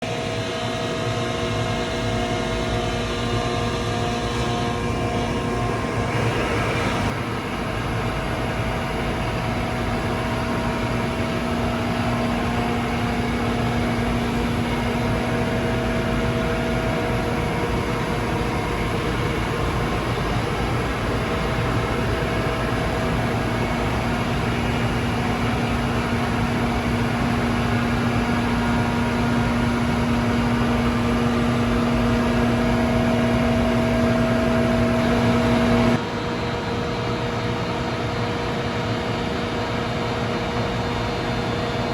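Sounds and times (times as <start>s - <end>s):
boring mill mechanical hum: 0.0s - 41.9s
machine whining tones: 0.1s - 36.0s.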